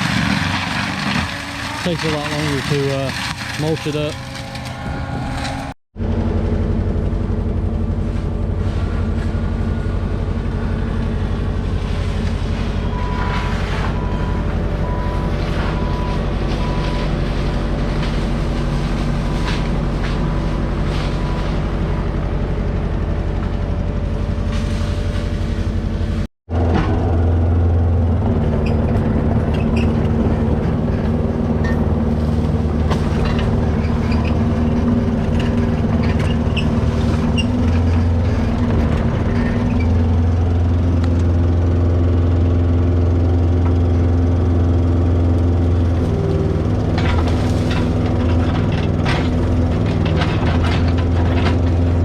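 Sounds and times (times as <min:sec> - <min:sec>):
heavy diesel engine under load: 0:00.0 - 0:52.0.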